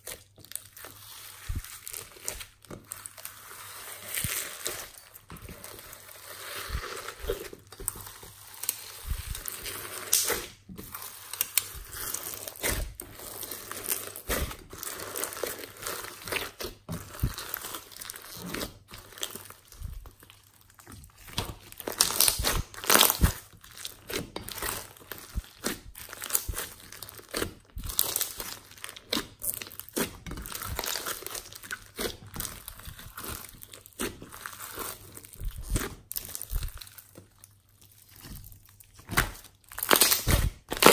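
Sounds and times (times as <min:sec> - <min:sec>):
slime squished by hand crackling: 0:07.1 - 0:40.9.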